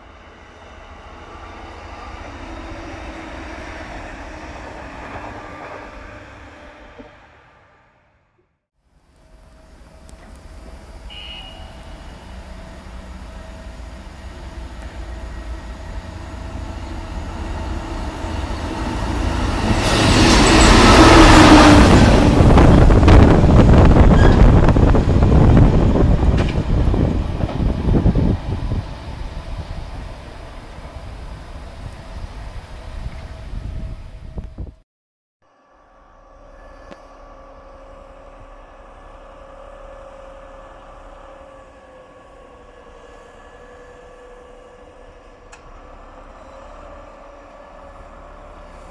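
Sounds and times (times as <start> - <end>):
diesel rail machine passing: 0.0 - 34.8, 35.5 - 48.9.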